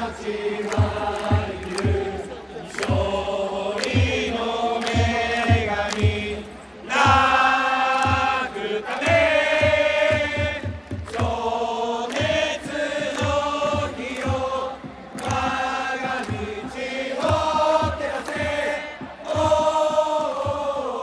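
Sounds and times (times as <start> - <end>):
crowd singing in unison: 0.0 - 21.0
drum beat: 0.0 - 21.0.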